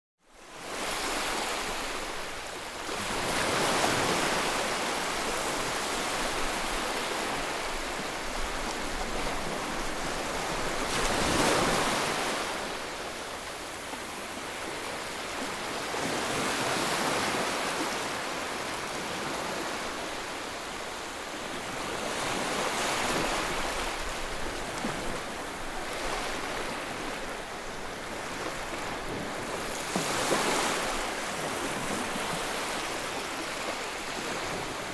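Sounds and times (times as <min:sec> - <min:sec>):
ocean waves breaking: 0:00.6 - 0:34.9.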